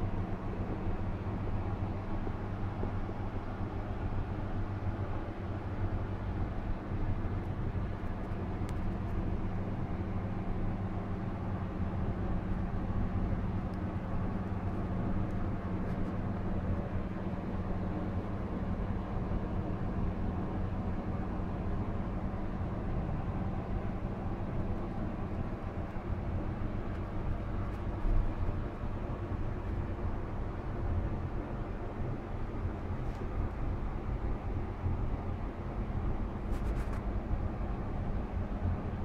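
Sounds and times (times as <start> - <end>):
electrical hum of controller cabinet: 0.0 - 39.0.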